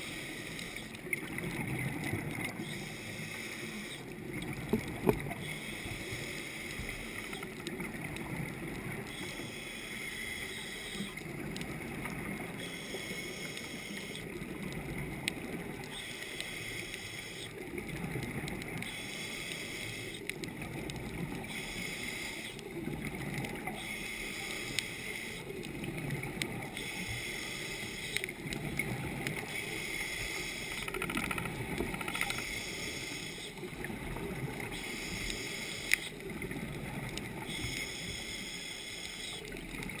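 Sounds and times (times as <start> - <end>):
soft pulsing hiss: 0.0 - 40.0
underwater rush of water: 0.0 - 40.0
faint clicks: 0.1 - 40.0.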